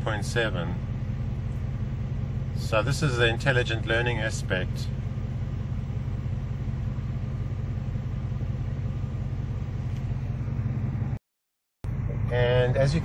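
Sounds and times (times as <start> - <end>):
car engine idling: 0.0 - 11.2, 11.8 - 13.0.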